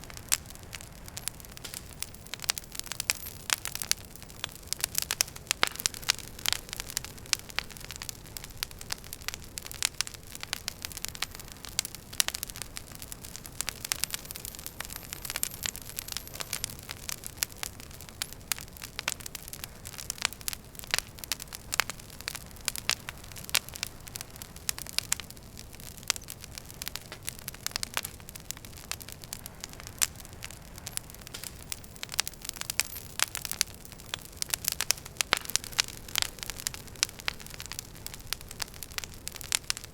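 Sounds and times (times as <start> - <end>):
fire low hiss: 0.0 - 39.9
wood fire crackling and popping: 0.0 - 39.9.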